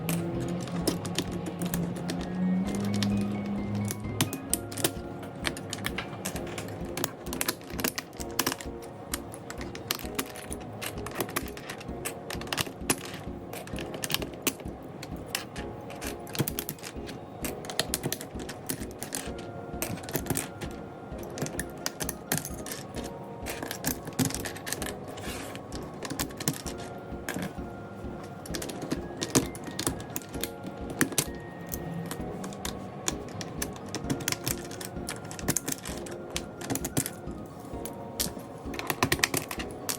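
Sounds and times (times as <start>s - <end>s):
background music with held tones: 0.0s - 39.9s
mechanical keyboard clicks: 0.0s - 39.9s.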